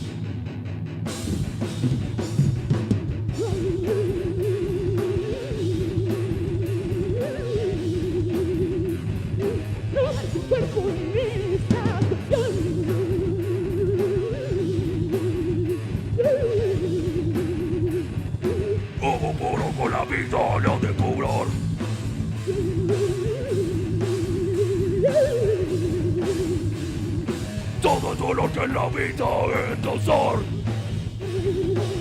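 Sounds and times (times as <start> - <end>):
heavy metal band playing: 0.0 - 32.0
trilling lead guitar line: 0.0 - 32.0.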